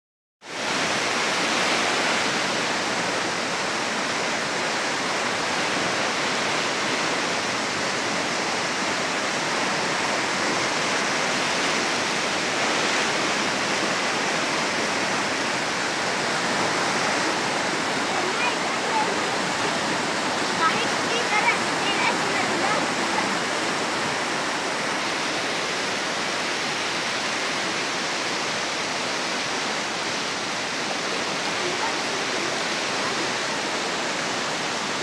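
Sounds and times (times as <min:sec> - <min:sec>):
river rushing in flood: 0:00.4 - 0:35.0.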